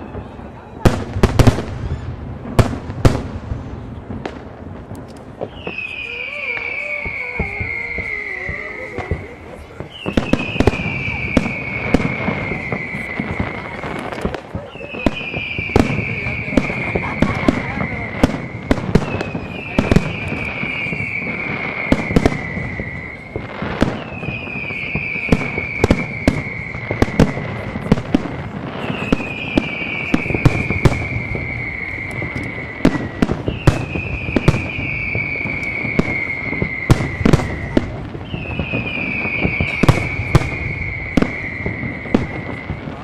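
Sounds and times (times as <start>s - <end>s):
fireworks bangs and booms: 0.0s - 43.0s
falling whistle: 5.4s - 14.1s, 14.7s - 42.8s.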